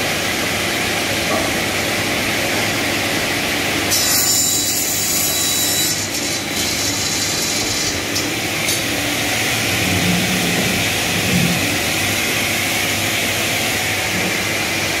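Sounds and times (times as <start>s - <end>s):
table saw running: 0.0s - 15.0s.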